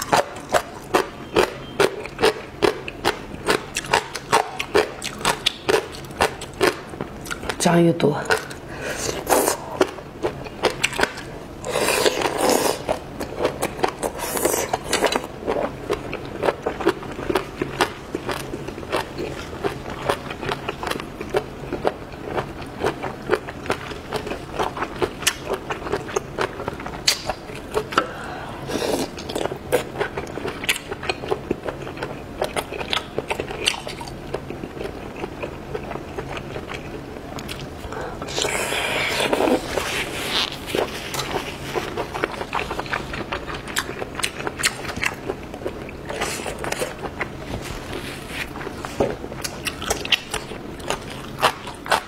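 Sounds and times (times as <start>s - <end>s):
wet chewing with mouth clicks: 0.0s - 7.6s, 8.3s - 52.0s.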